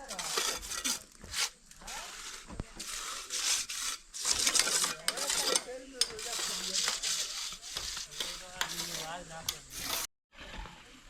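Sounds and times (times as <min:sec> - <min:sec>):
tools clinking and scraping: 0:00.0 - 0:10.1.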